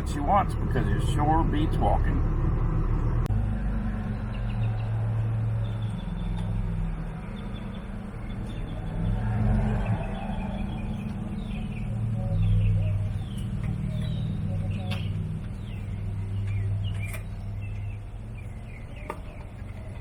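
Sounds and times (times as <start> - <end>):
birds chirping: 0.0 - 3.1, 3.8 - 20.0
car engine running at low revs: 0.0 - 20.0.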